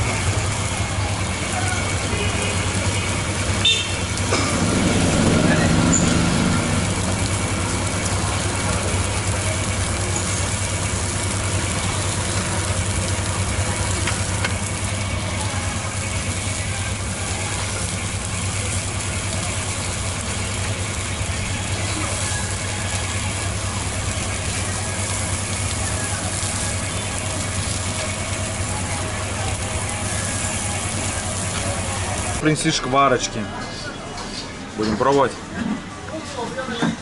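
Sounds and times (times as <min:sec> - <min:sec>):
exhaust fan humming and rushing: 0:00.0 - 0:32.6.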